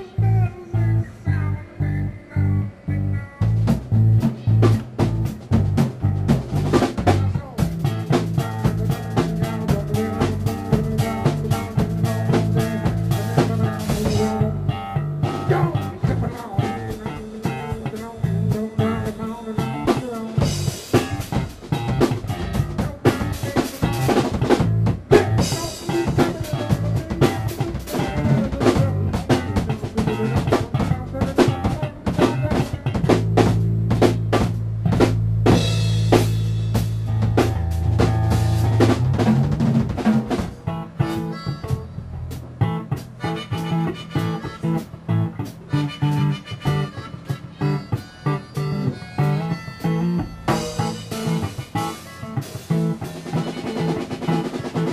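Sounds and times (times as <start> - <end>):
bass line: 0.0 - 54.9
drum kit groove: 3.4 - 54.9.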